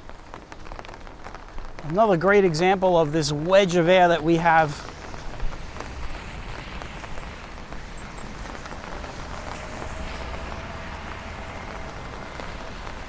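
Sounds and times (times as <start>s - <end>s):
steady rain: 0.0s - 13.0s
traffic hiss on wet street: 0.0s - 13.0s.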